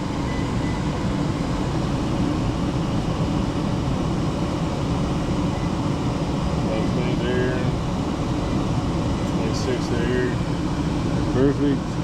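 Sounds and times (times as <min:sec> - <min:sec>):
furnace blower air rush: 0:00.0 - 0:12.0.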